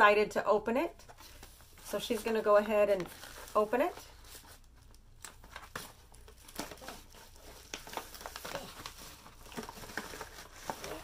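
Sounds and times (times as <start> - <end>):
paper envelope crinkling: 1.2 - 11.0.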